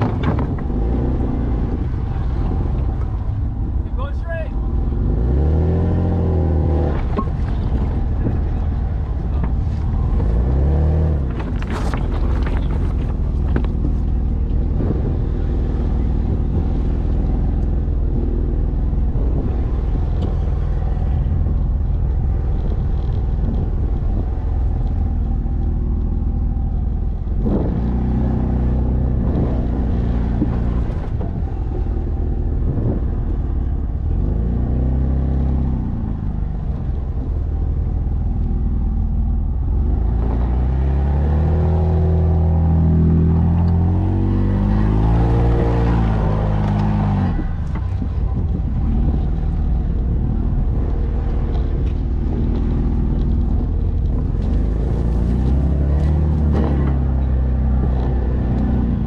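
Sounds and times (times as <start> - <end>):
engine revving in sand: 0.0 - 25.9, 27.3 - 37.4, 38.4 - 59.0.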